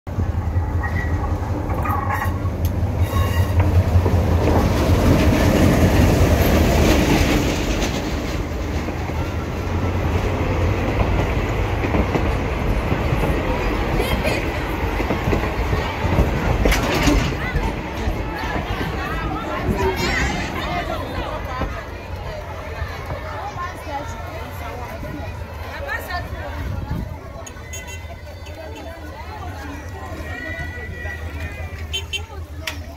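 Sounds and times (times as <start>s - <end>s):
passenger train rumbling past: 0.1s - 32.9s.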